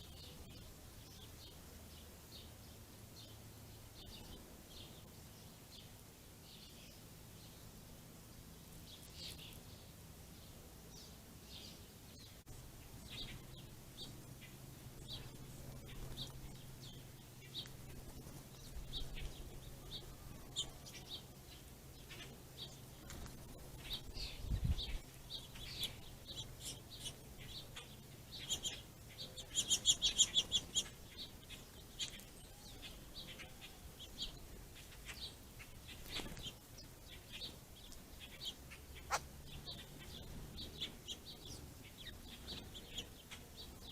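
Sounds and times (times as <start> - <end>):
faint low hum: 0.0 - 43.9
songbirds chirping: 0.0 - 43.9.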